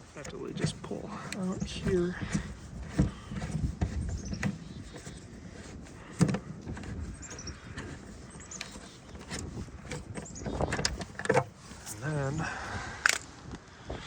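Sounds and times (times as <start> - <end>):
handling noise: 0.0 - 12.3.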